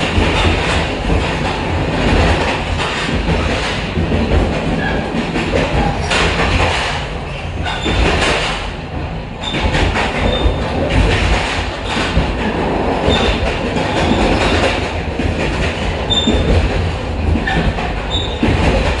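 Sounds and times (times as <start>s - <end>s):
train rumble and rattle: 0.0s - 19.0s.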